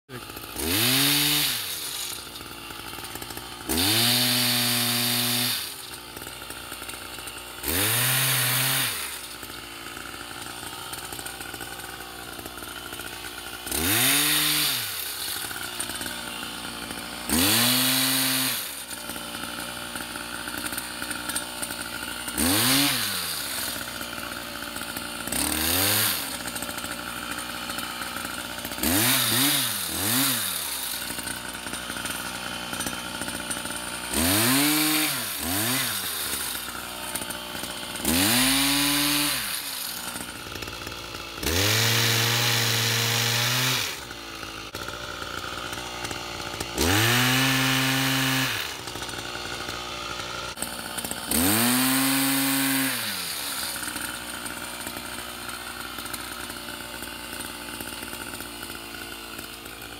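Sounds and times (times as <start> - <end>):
small engine revving: 0.1 - 59.9.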